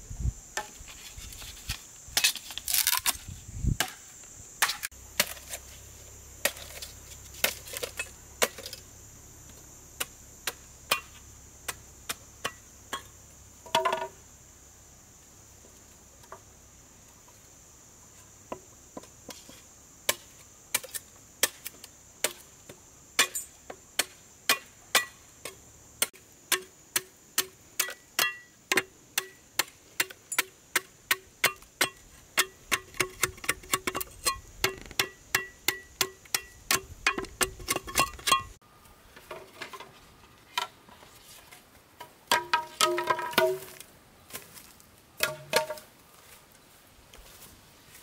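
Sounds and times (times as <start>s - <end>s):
faint high hiss: 0.0s - 48.0s.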